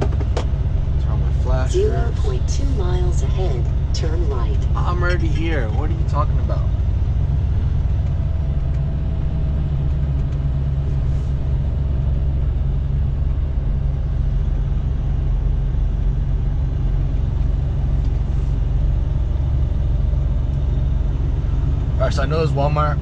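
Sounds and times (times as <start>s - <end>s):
truck diesel engine rumbling: 0.0s - 23.0s.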